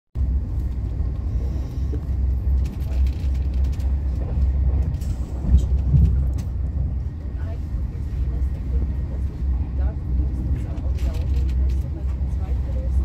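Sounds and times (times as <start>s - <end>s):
train rumbling inside carriage: 0.2s - 13.0s.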